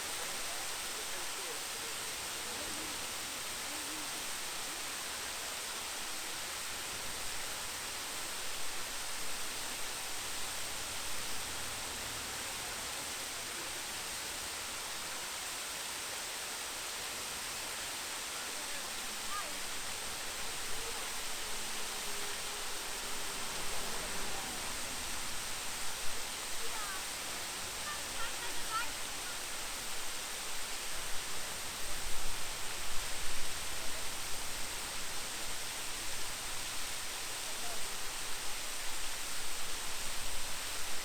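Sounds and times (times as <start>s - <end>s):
faint distant voices: 0.0s - 41.0s
waterfall rushing: 0.0s - 41.0s.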